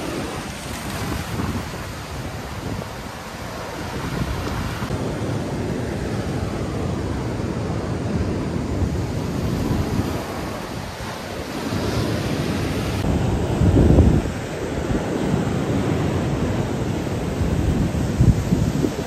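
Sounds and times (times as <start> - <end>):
ocean waves breaking: 0.0 - 19.0
wind rumbling on microphone: 0.0 - 19.0.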